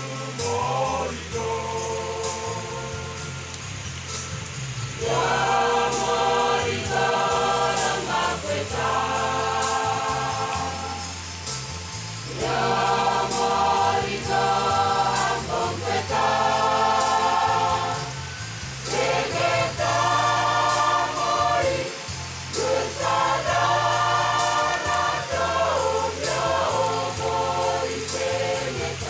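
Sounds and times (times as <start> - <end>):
choir singing a hymn: 0.0 - 29.0.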